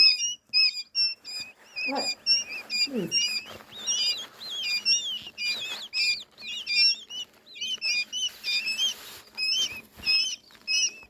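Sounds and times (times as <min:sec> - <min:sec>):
goslings peeping: 0:00.0 - 0:11.0
soft rustle: 0:00.0 - 0:11.0.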